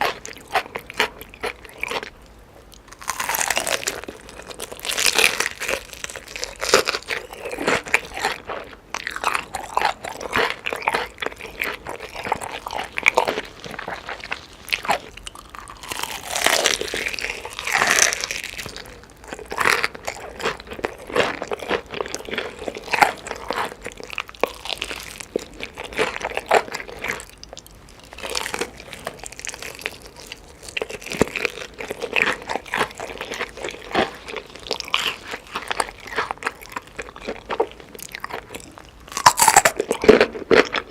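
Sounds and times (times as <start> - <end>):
person crunching and chewing: 0.0 - 40.9.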